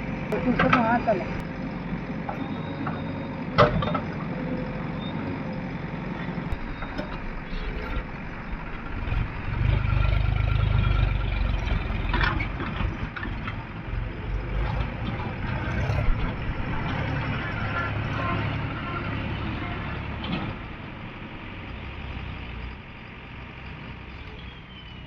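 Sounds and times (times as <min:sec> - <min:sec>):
diesel engines running: 0:00.0 - 0:25.0.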